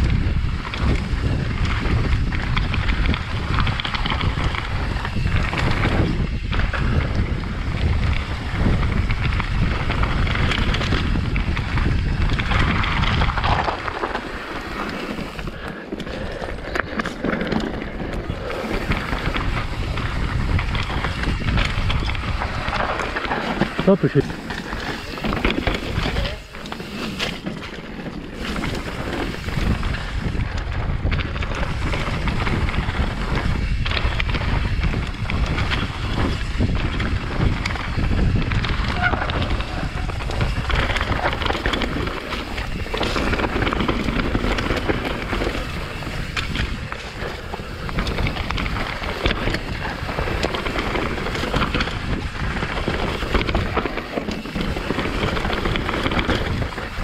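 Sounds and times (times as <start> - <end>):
bike rattling over rough trail: 0.0 - 57.0
wind buffeting microphone: 0.0 - 57.0.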